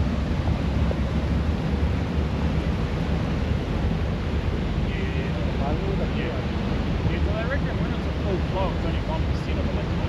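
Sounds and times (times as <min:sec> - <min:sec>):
jet boat on water: 0:00.0 - 0:10.0.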